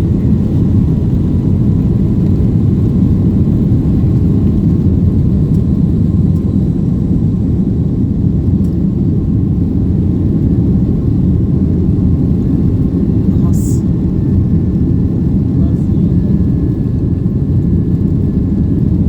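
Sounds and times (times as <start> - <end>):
faint engine whine: 0.0 - 19.0.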